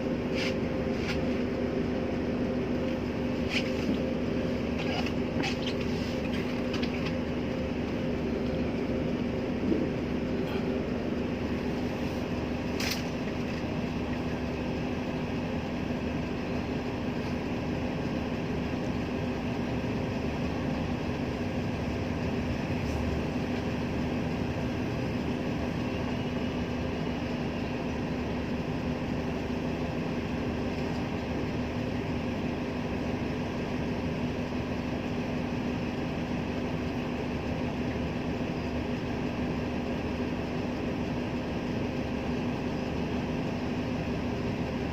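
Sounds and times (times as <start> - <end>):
vehicle engine hum: 0.0 - 44.9.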